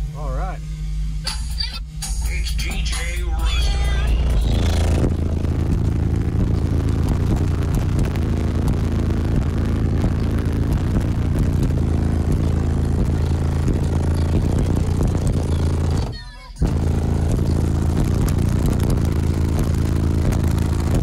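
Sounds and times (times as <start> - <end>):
deep bass from subwoofers: 0.0 - 21.0.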